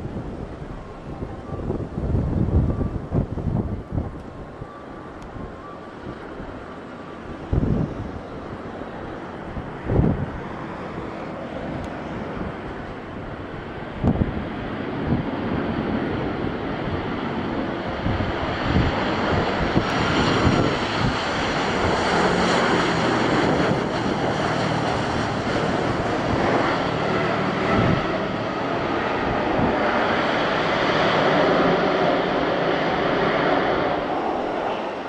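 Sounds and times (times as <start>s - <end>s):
jet engine whine: 0.0s - 35.0s
wind noise on microphone: 0.0s - 35.0s.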